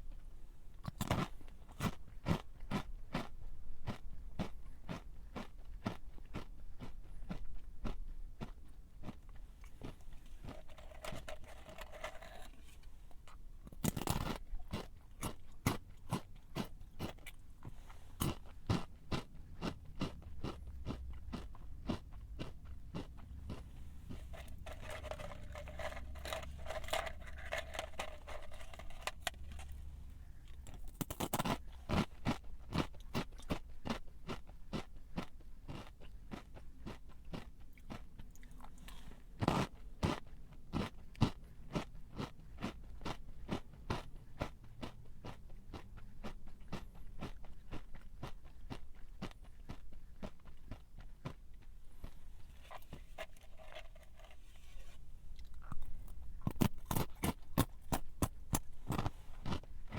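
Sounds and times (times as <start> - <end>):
person chewing crunchy snack: 0.8 - 59.9.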